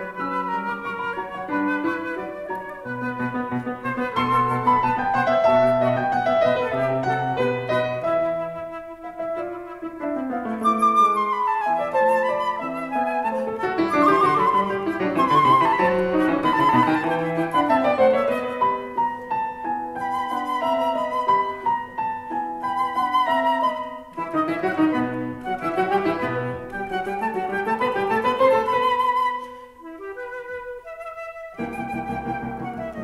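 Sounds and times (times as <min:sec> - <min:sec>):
instrumental melody over held notes: 0:00.0 - 0:33.0.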